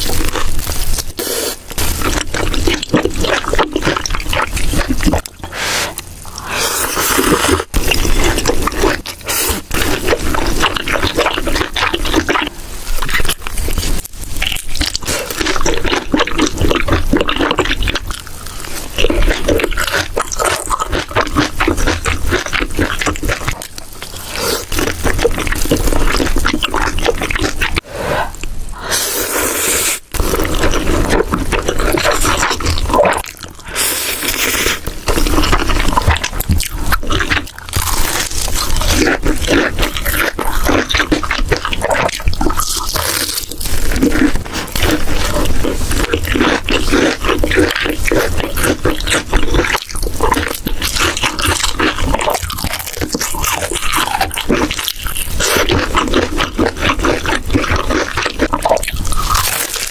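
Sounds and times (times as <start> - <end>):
person chewing and crunching: 0.0 - 59.9.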